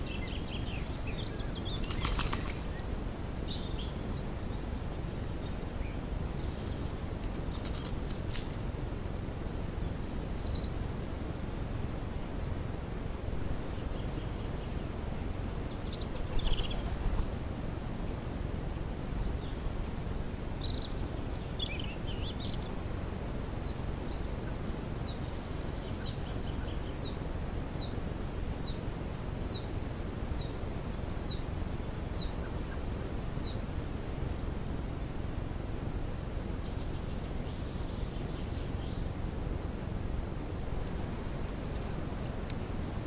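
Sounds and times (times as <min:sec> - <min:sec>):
low background noise: 0:00.0 - 0:43.0.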